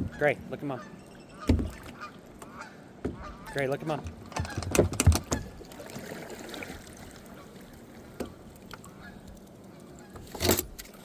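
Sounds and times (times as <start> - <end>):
water lapping and trickling: 0.0 - 11.0.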